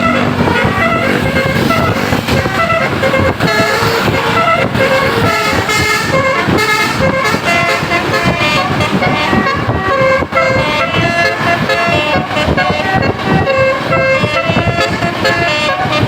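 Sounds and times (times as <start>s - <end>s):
musical air horn playing a tune: 0.0s - 16.0s
vehicle noise: 0.0s - 16.0s.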